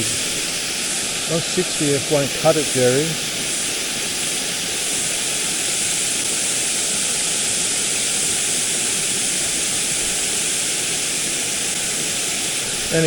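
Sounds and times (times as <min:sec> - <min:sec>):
waterfall rushing water: 0:00.0 - 0:13.0.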